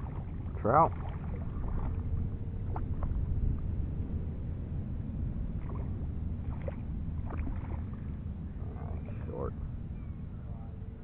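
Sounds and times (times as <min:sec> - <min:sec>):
breeze and water rumble: 0:00.0 - 0:11.0.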